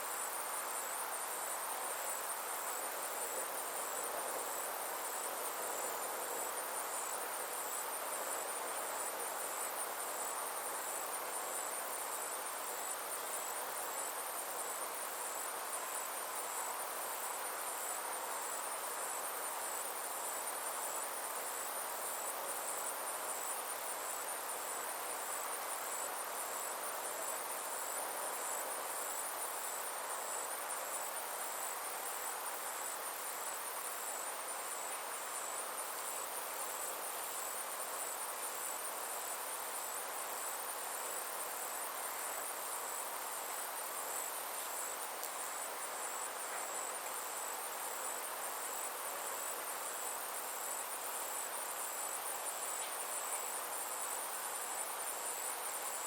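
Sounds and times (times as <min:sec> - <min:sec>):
insects calling hiss: 0:00.0 - 0:56.0
insects pulsing trill: 0:00.0 - 0:56.0.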